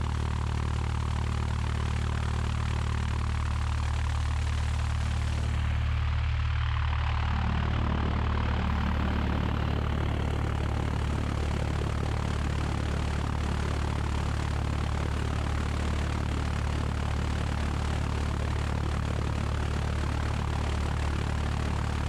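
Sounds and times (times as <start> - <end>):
aircraft propeller engine idling: 0.0 - 22.0.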